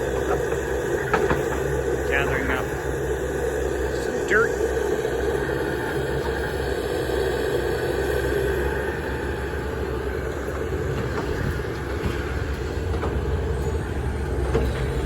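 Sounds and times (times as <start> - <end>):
diesel machinery droning: 0.0 - 15.0.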